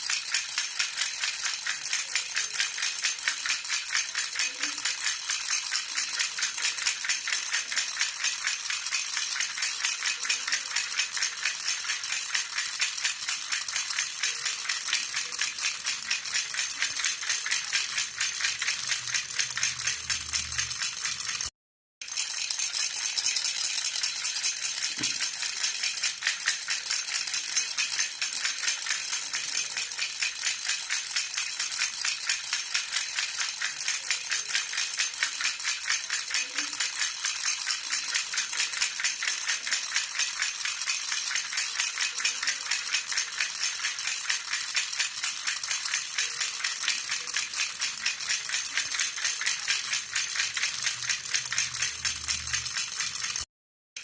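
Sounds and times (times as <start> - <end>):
baby rattle shaken: 0.0 - 53.5.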